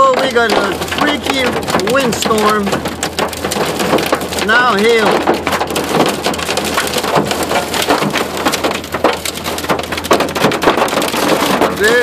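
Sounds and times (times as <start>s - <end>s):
hail clattering on a truck: 0.0s - 12.0s
rain: 0.0s - 12.0s.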